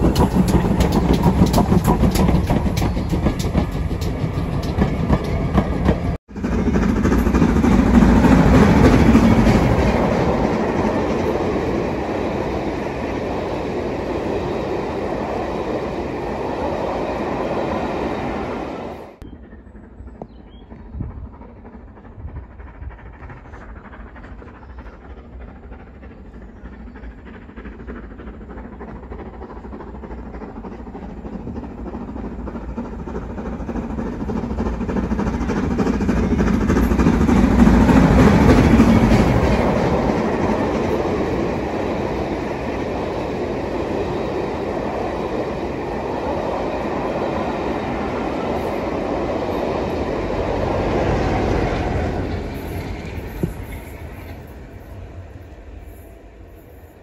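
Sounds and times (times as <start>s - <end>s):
steam locomotive exhaust beats: 0.0s - 57.0s
train wheels clattering on rails: 0.0s - 57.0s.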